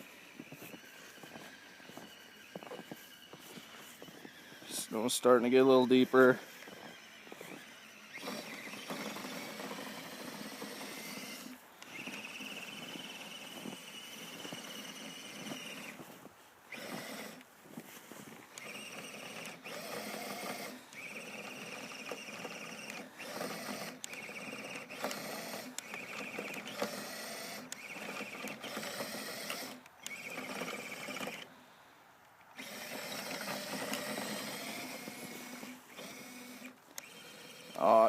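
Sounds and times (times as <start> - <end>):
electric motor and gearbox whining: 0.0 - 31.5, 32.5 - 38.0.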